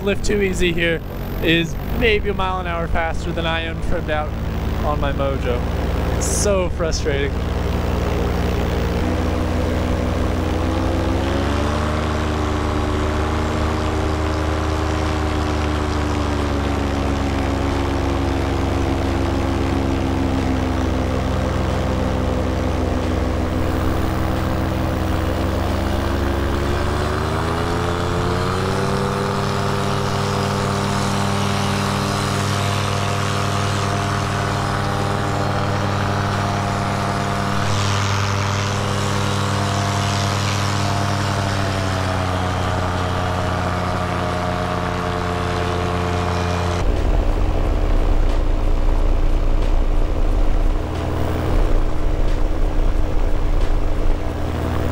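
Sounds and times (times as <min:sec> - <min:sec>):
paramotor engine running: 0:00.0 - 0:54.9.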